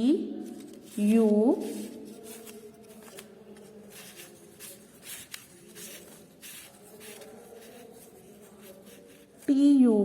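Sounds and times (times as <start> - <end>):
pen scratching handwriting: 0.9 - 9.4.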